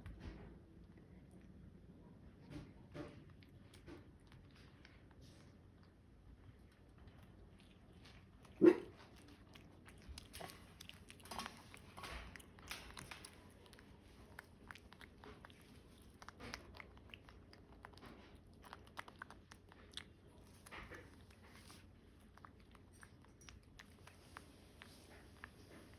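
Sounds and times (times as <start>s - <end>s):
monkey chewing food: 2.5s - 25.9s.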